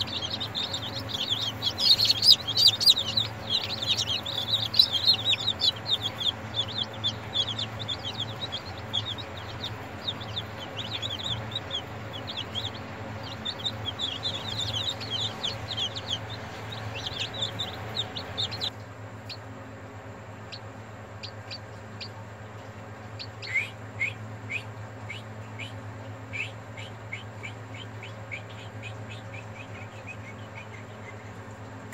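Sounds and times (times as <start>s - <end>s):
chicks peeping: 0.0s - 31.9s
steady low hum: 0.0s - 31.9s.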